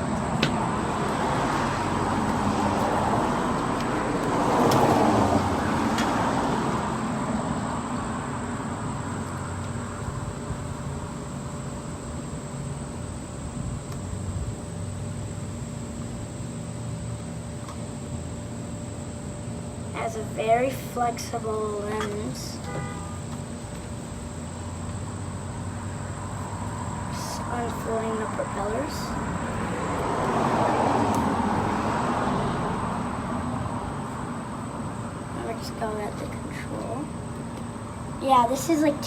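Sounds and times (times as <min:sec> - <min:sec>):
faint constant hum: 0:00.0 - 0:39.0.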